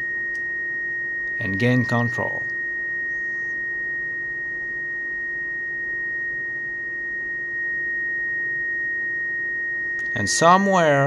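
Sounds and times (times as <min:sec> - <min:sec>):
faint lower tone: 0:00.0 - 0:11.0.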